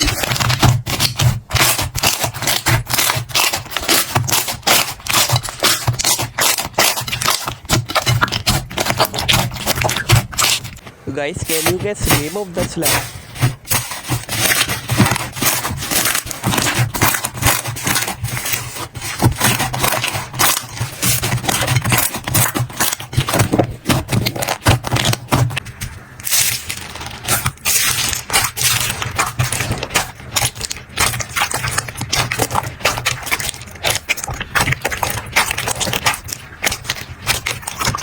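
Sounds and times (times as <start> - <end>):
slime crackling and popping: 0.0 - 38.0.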